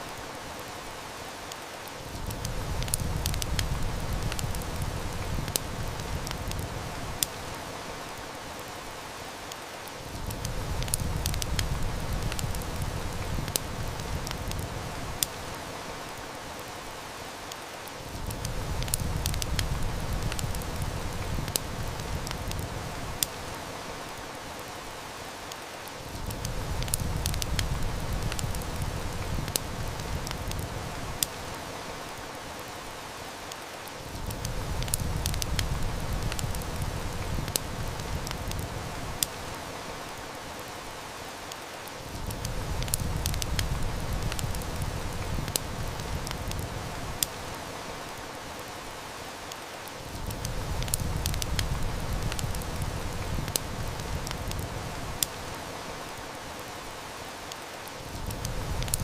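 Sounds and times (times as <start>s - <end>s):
heavy rain hiss: 0.0s - 59.0s
wood fire crackling: 0.0s - 59.0s.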